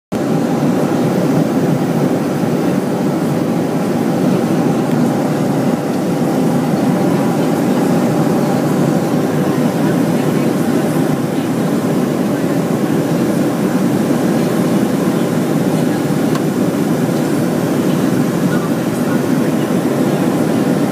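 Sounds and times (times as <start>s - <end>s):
airplane cabin engine drone: 0.1s - 20.9s.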